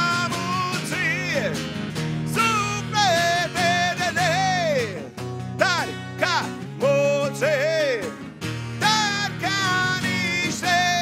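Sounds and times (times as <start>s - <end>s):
acoustic guitars playing chords: 0.0s - 11.0s
man singing: 0.0s - 11.0s.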